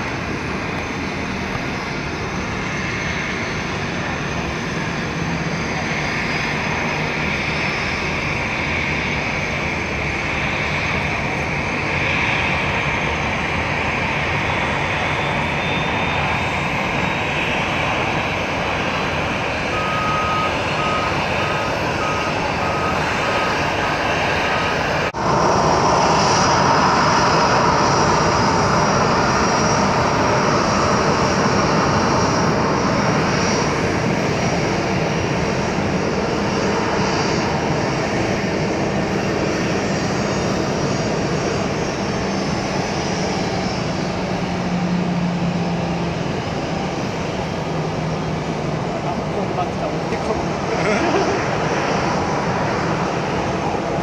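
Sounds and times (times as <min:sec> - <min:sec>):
faint high engine whine: 0:00.0 - 0:54.0
jet engine rumble and hiss: 0:00.0 - 0:54.0.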